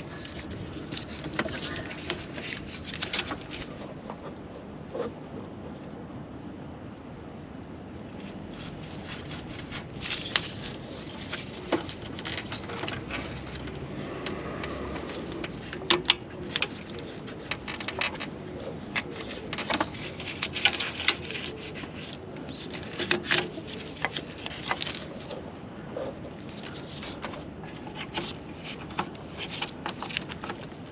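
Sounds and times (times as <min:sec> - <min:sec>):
clicks knocks and scrapes: 0:00.0 - 0:04.4, 0:08.6 - 0:25.4, 0:26.0 - 0:30.9
steady background noise: 0:00.0 - 0:30.9.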